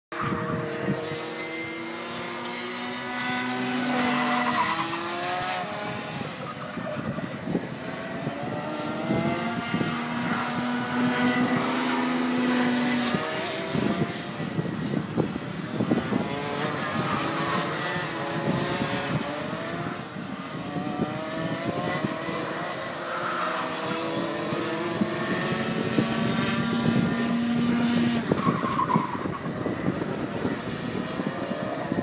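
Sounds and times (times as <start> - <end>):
kart engines racing: 0.1 - 32.0.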